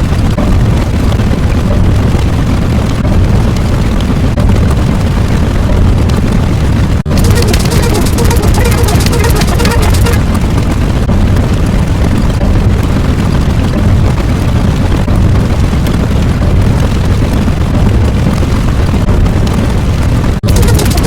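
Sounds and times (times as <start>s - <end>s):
loud steady rumbling: 0.0s - 21.0s.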